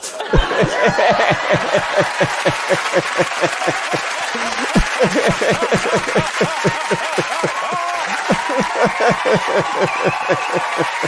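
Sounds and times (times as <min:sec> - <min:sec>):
audience laughing and applauding: 0:00.0 - 0:11.0
man laughing hard: 0:00.0 - 0:11.0.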